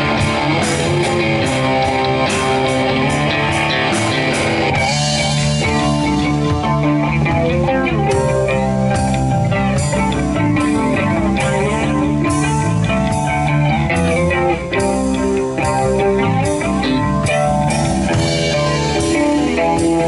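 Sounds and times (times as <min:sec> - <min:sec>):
bass guitar: 0:00.0 - 0:20.0
drum kit: 0:00.0 - 0:20.0
electric guitar: 0:00.0 - 0:20.0.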